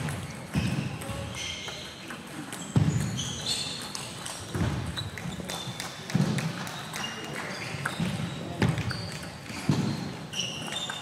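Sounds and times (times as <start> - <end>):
shoes squeaking on floor: 0.0 - 11.0.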